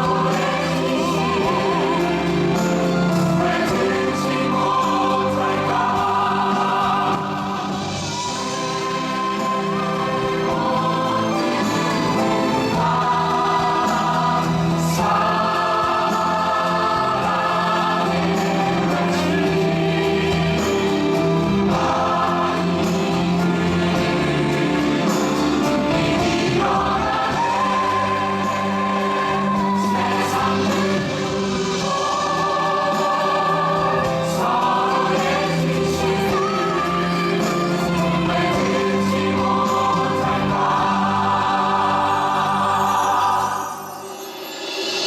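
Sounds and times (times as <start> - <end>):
instrumental accompaniment: 0.0 - 45.0
voices singing together: 0.0 - 45.0.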